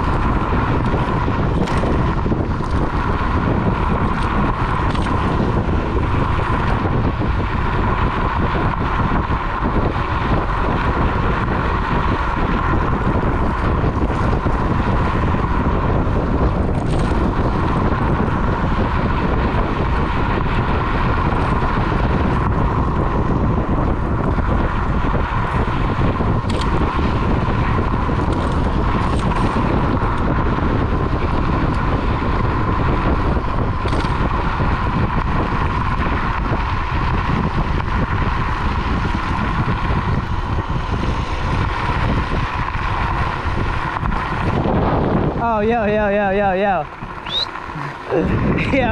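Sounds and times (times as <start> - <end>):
tyres rumbling on dirt: 0.0 - 48.9
wind buffeting microphone: 0.0 - 48.9.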